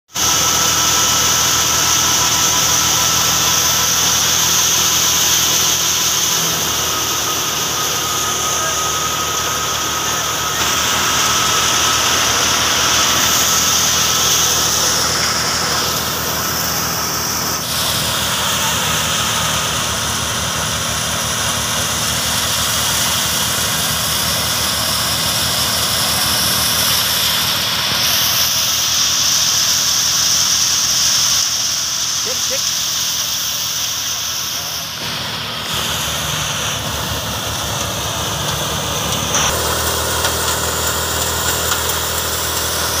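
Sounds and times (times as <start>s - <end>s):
threshing drum hissing: 0.1s - 43.0s
tractor engine drone: 0.1s - 43.0s.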